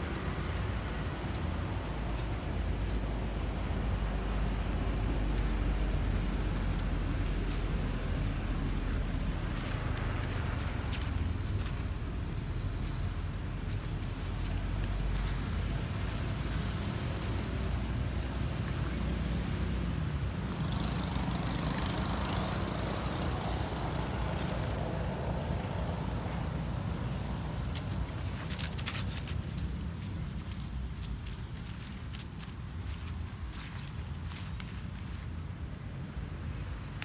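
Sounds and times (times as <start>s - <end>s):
engine humming: 0.0s - 37.0s.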